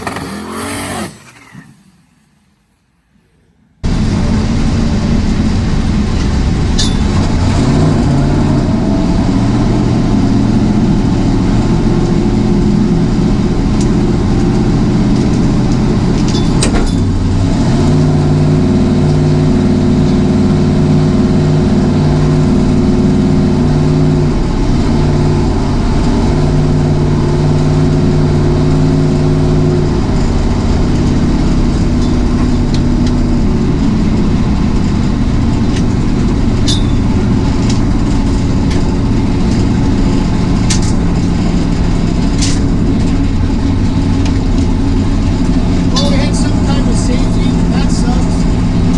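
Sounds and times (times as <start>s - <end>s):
vehicle engine running: 3.2s - 48.9s.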